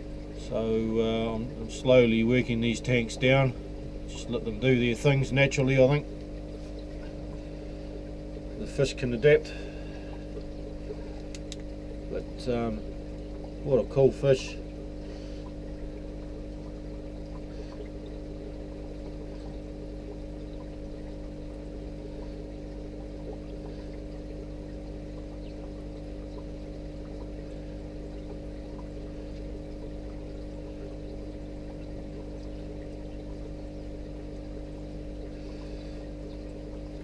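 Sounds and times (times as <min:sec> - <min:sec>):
aquarium equipment humming: 0:00.0 - 0:37.0
water trickling and bubbling: 0:00.0 - 0:37.0.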